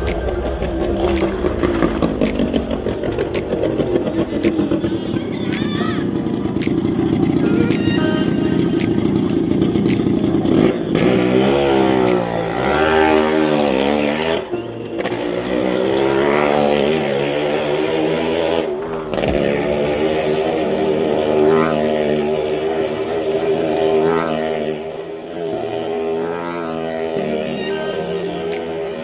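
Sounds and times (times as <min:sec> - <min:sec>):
motorcycle engine running hard: 0:00.0 - 0:29.0.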